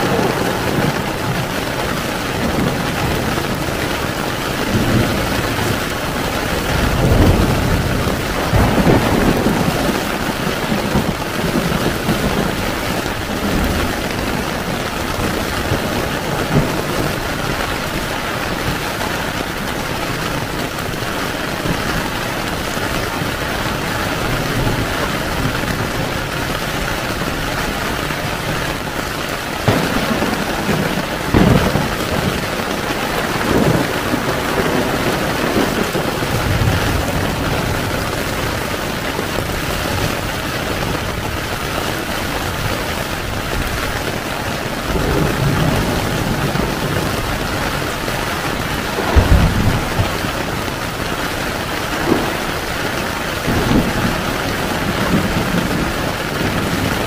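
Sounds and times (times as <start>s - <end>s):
heavy rain on a tent: 0.0s - 57.0s
thunder rumbling: 0.0s - 57.0s.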